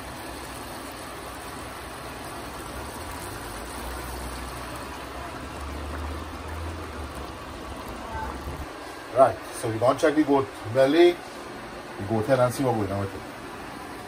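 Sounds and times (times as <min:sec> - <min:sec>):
pot bubbling on the stove: 0:00.0 - 0:14.0.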